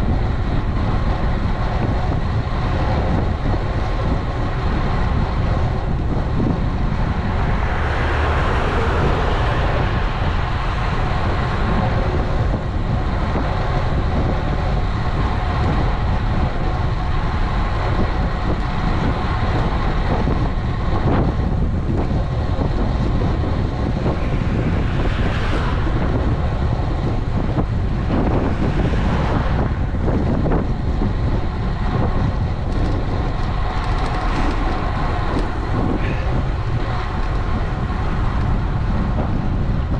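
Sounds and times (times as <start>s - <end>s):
passing traffic: 0.0s - 39.9s
road noise: 0.0s - 39.9s
wind rushing over microphone: 0.0s - 39.9s.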